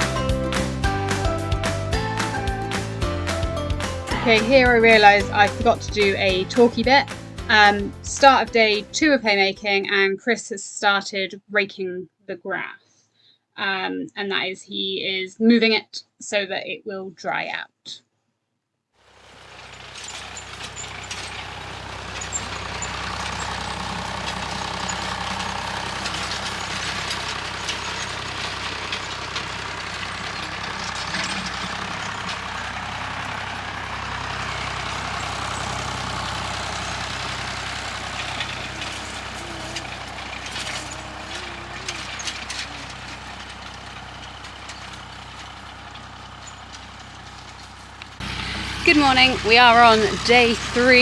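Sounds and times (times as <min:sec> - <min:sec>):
tractor engine running: 0:00.0 - 0:10.0, 0:19.0 - 0:51.0.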